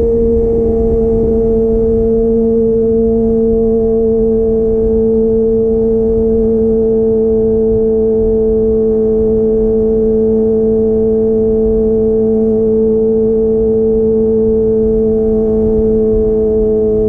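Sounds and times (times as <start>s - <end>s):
motorcycle engine at high rpm: 0.0s - 17.0s
wind rumble on microphone: 0.0s - 17.0s.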